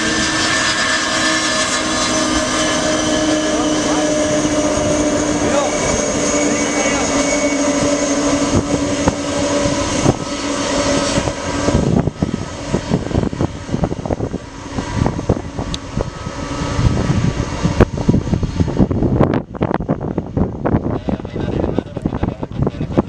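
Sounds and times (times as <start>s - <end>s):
crackling engine rumble: 0.0s - 23.0s
jet engines whining and roaring: 0.0s - 23.0s.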